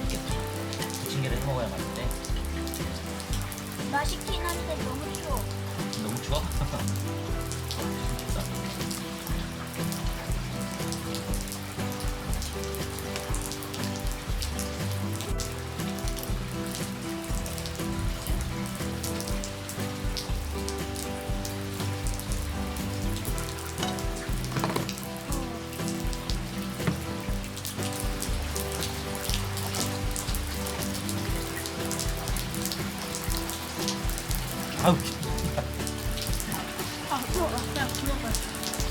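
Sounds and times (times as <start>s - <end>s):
rain pattering on surfaces: 0.0s - 38.9s
soft background music: 0.0s - 38.9s.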